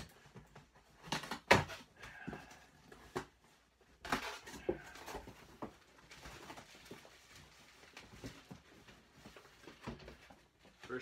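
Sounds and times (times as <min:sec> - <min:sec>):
knocks and rustling of cardboard: 0:00.0 - 0:11.0.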